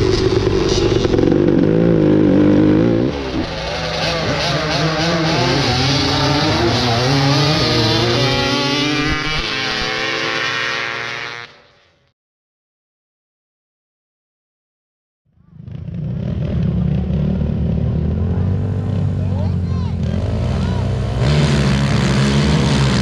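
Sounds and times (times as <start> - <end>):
two-stroke engines at full throttle: 0.0 - 11.8, 15.4 - 23.0.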